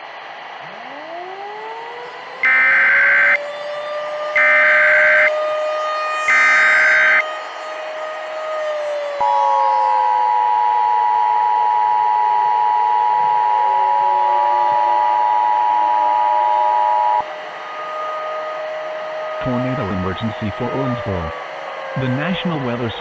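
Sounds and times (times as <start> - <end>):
civil defense siren wailing: 0.6 - 23.0.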